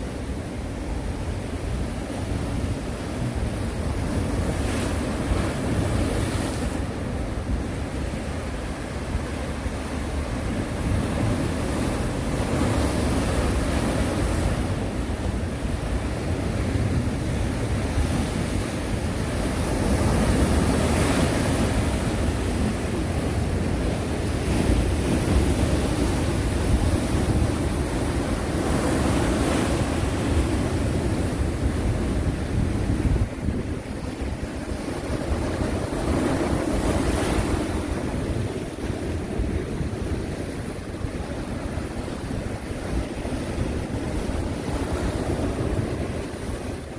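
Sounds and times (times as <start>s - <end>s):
sea waves breaking on shore: 0.0s - 46.9s
wind rumble on microphone: 0.0s - 46.9s.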